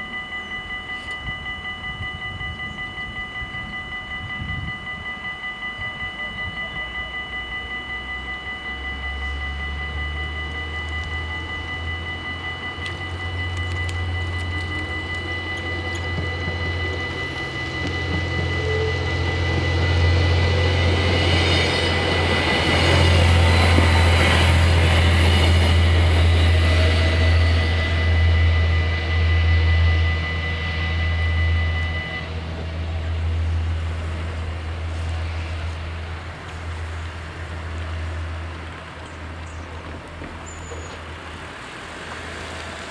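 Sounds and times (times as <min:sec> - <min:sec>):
diesel railcar rumbling: 0:00.0 - 0:42.9
level-crossing warning bells: 0:00.0 - 0:42.9.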